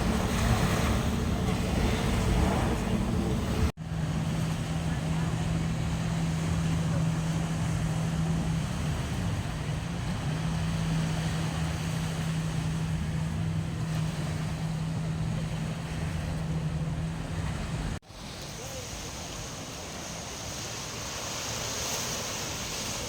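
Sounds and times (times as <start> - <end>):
motorboat engine droning: 0.0 - 23.0
rushing water: 0.0 - 23.0.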